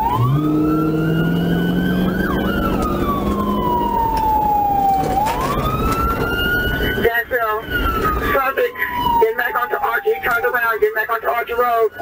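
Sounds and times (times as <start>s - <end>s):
car engine and road noise: 0.0s - 12.0s
fainter distant sirens: 0.0s - 12.0s
police siren wailing: 0.0s - 12.0s.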